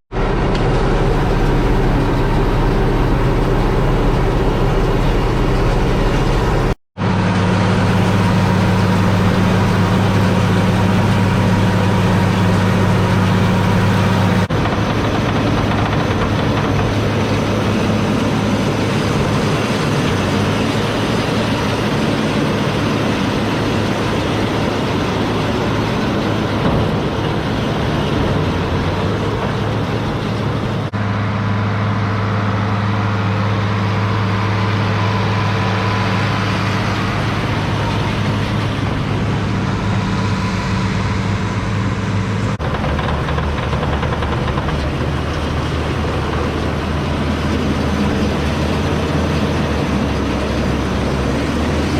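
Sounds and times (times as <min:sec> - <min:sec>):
tractor engine running: 0:00.1 - 0:51.9.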